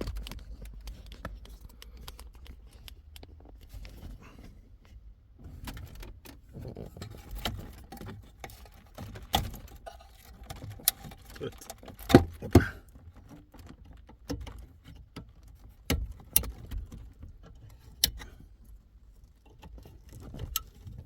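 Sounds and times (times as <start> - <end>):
small hard parts clicking and rattling: 0.0 - 4.2, 5.6 - 21.0.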